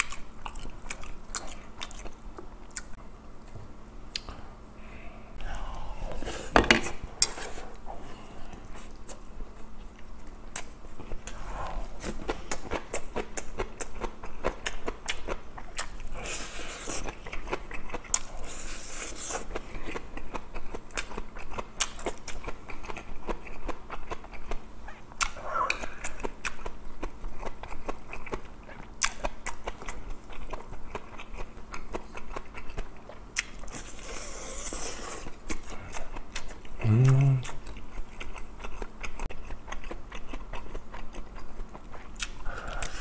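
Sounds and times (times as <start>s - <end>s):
person chewing food: 0.0s - 4.4s, 5.4s - 43.0s.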